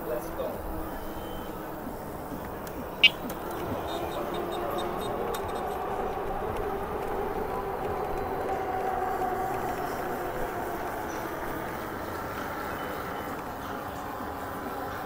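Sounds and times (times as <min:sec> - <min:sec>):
faint electric motor whine: 0:00.0 - 0:15.0.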